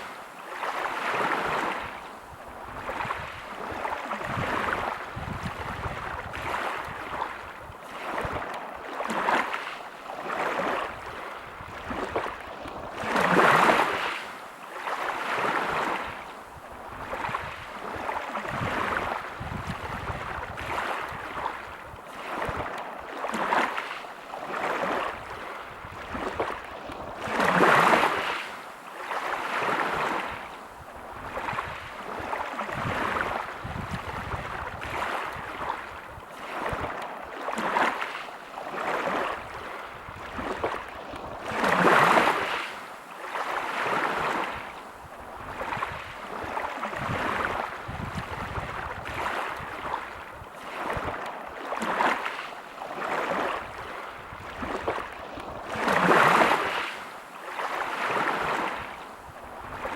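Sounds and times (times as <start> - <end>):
waves washing over pebbles: 0.0 - 59.9.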